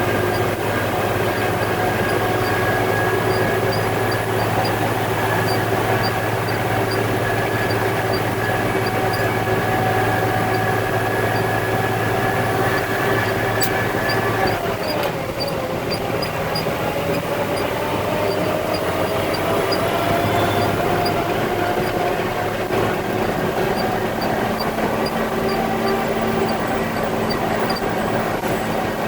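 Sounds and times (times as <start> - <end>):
faint regular tick: 0.0 - 28.8
diesel truck engine running: 0.0 - 29.0.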